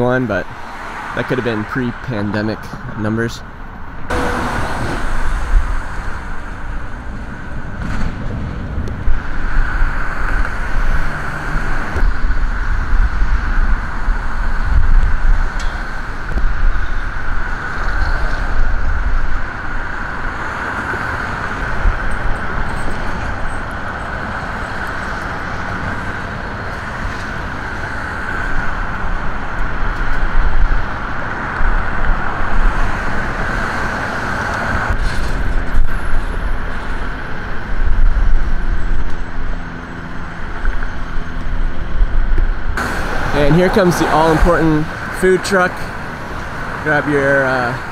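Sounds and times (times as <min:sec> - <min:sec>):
road traffic noise: 0:00.0 - 0:47.9
wind rumbling on microphone: 0:00.0 - 0:47.9.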